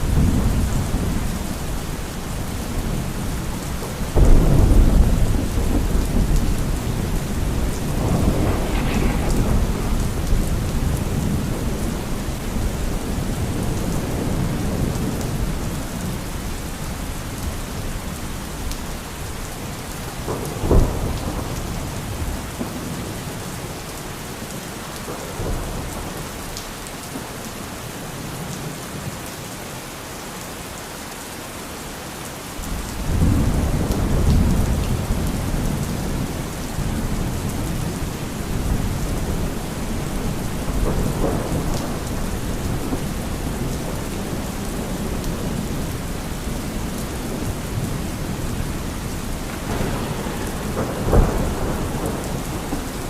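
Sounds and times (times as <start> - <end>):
thunder rumbling: 0.0 - 23.4, 32.7 - 53.0
heavy rain hissing: 0.0 - 28.0, 32.5 - 53.0.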